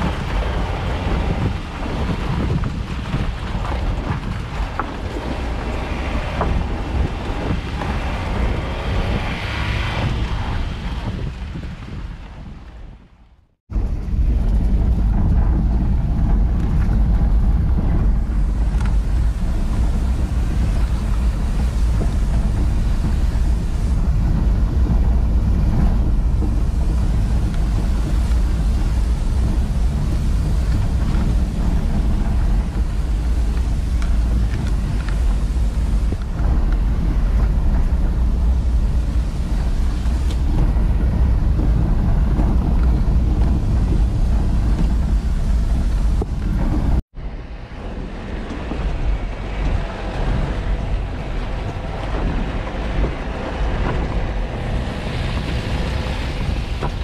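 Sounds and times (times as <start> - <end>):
engine and tyres rumbling: 0.0 - 57.0.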